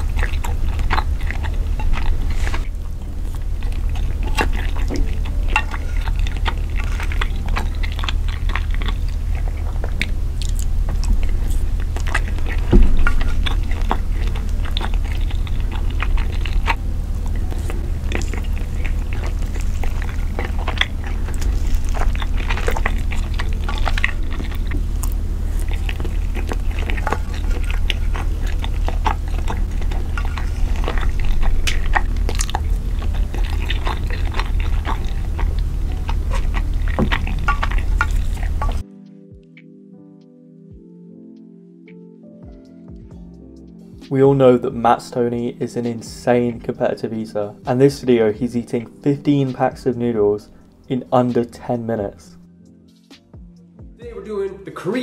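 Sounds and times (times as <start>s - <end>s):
wet chewing with mouth clicks: 0.0s - 38.9s, 44.1s - 52.5s
steady low hum: 0.0s - 39.0s, 42.9s - 54.8s.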